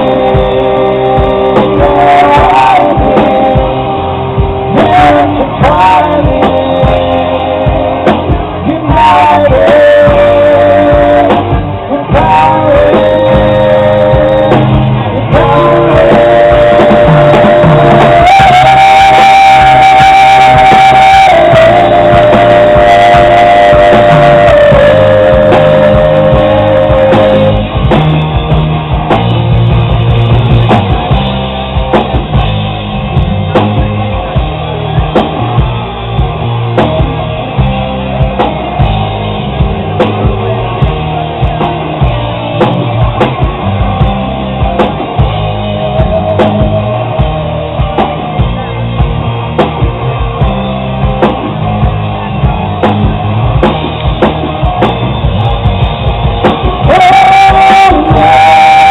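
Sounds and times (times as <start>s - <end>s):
bass guitar: 0.0s - 58.9s
rock band playing live: 0.0s - 58.9s
steady drum beat: 0.0s - 58.9s
sustained electric guitar: 0.0s - 58.9s.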